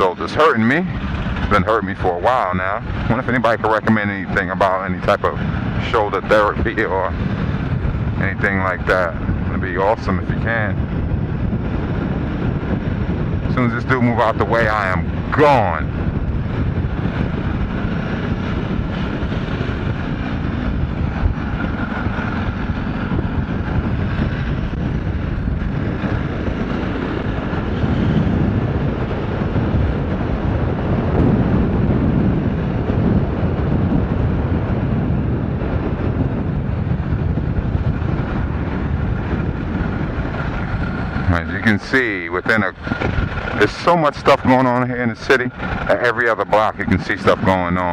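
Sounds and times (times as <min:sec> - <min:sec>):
motorcycle engine running: 0:00.0 - 0:09.6, 0:14.4 - 0:47.8
wind rushing over microphone: 0:00.0 - 0:47.9.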